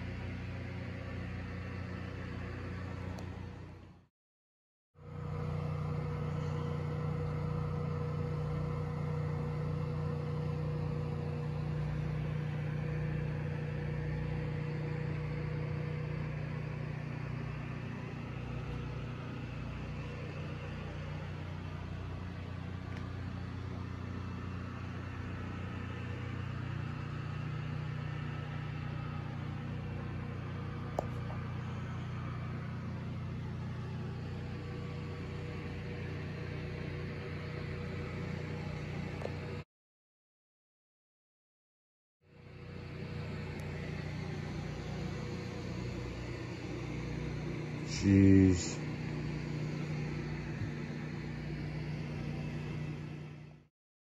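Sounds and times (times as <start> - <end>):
mechanical hum: 0.0 - 4.0, 5.0 - 39.6, 42.3 - 53.6.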